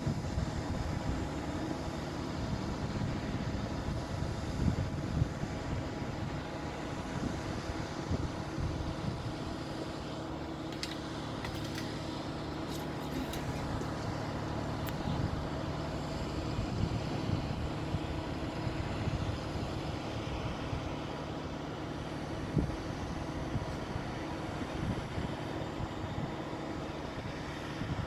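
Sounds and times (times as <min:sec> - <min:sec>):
steady low engine drone: 0:00.0 - 0:28.0.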